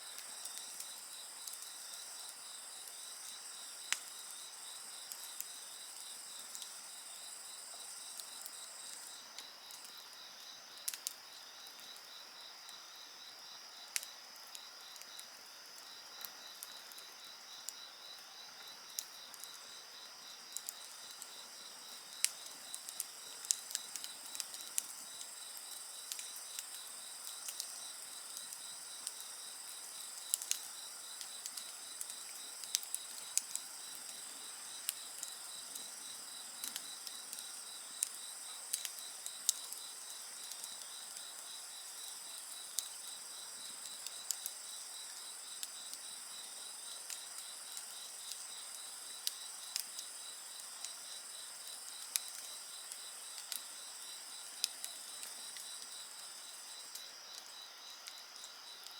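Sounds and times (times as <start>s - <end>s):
crickets and insects trilling: 0.0s - 58.9s
wood fire crackling: 0.1s - 11.1s, 18.4s - 57.6s.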